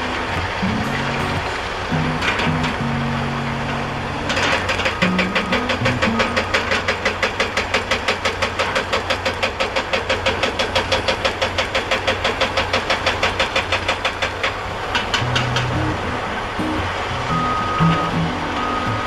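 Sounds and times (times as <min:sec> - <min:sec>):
heavy machine engine knocking: 0:00.0 - 0:19.0.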